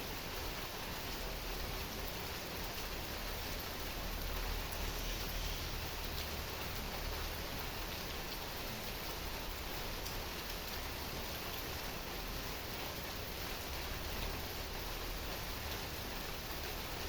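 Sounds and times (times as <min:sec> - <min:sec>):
heavy rain falling: 0:00.2 - 0:17.0.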